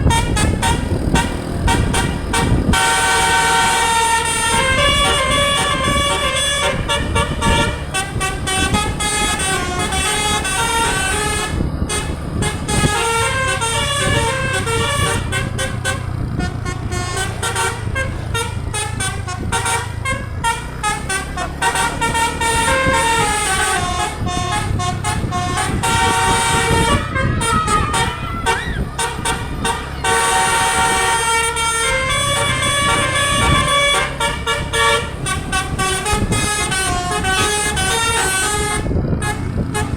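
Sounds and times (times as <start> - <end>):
low vehicle engine rumble: 0.0 - 39.9
musical air horn melody: 0.0 - 39.9.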